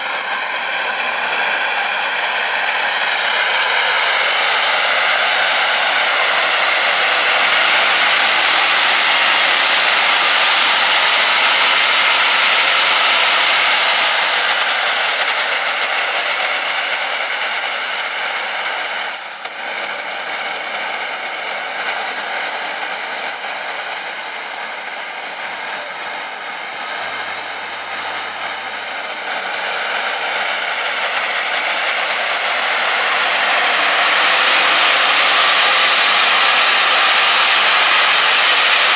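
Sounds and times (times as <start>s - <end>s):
jet engine whining: 0.0s - 38.9s.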